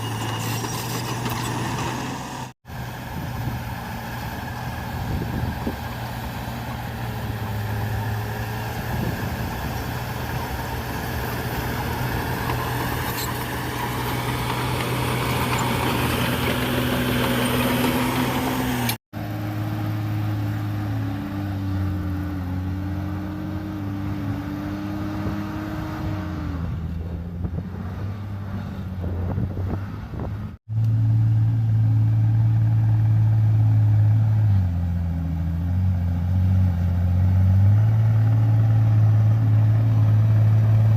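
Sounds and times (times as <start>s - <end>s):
bulldozer diesel engine under load: 0.0s - 40.9s.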